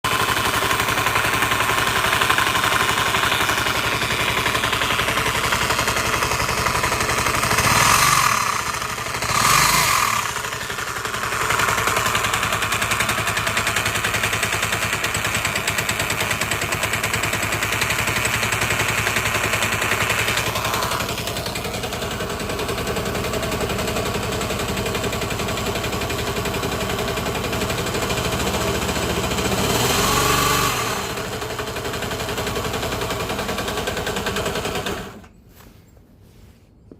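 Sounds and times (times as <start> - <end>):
scooter engine rattling: 0.0 - 35.4.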